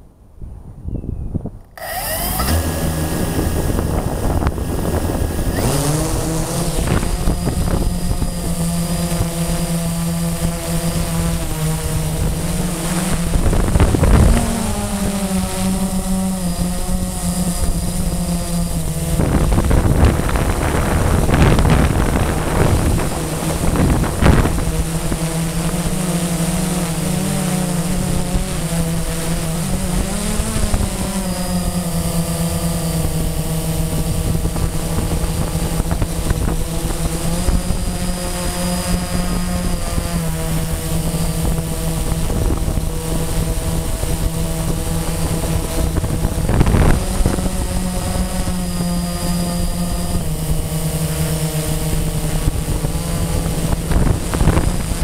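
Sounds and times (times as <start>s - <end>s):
wind buffeting microphone: 0.1s - 55.0s
quadcopter motors humming: 1.0s - 55.0s.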